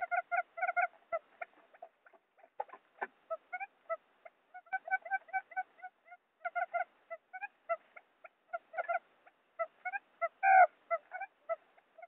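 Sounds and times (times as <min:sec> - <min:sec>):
quail calls: 0:00.0 - 0:12.0.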